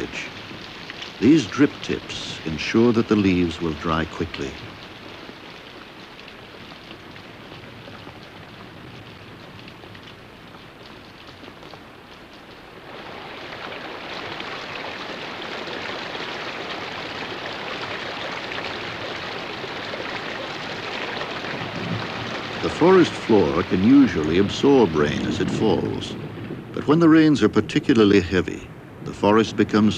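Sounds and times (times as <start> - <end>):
rain pattering on leaves: 0.0 - 29.9.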